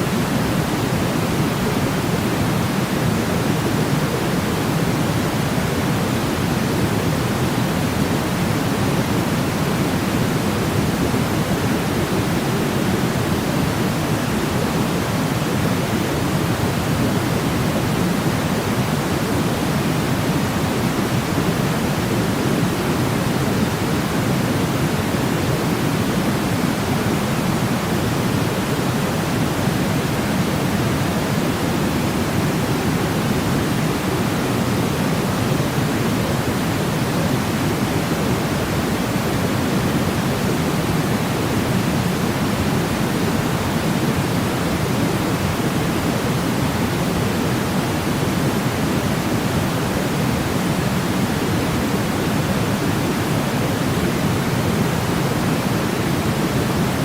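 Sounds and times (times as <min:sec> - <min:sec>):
white noise rush: 0:00.0 - 0:57.0.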